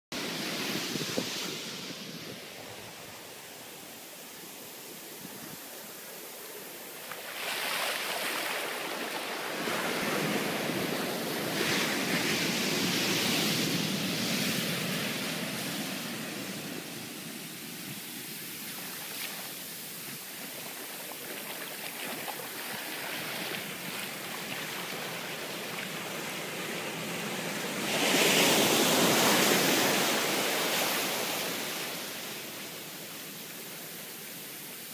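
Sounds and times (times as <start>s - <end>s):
sea surf breaking on beach: 0.2s - 34.9s.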